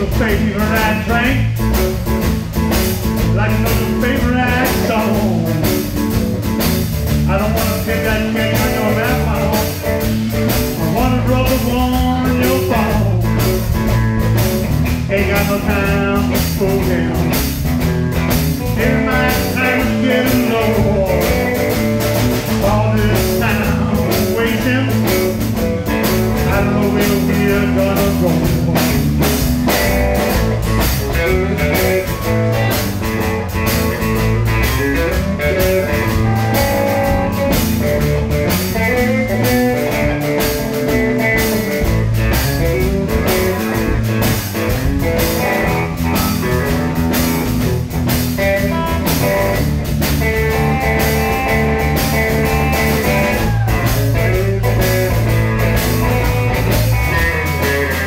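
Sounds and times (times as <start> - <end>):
bass guitar: 0.0 - 58.0
drum kit beat: 0.0 - 58.0
electric guitar: 0.0 - 58.0.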